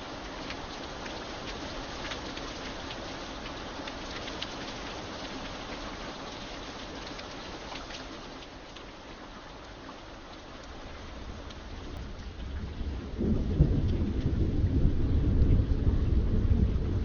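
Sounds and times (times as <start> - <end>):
raindrops ticking on a hard surface: 0.0 - 17.0.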